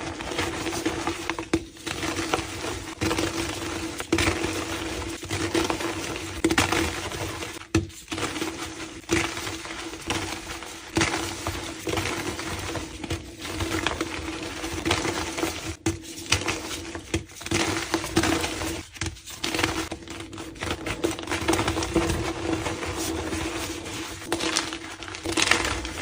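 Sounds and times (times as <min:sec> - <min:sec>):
chalk crunching and crackling: 0:00.0 - 0:26.0.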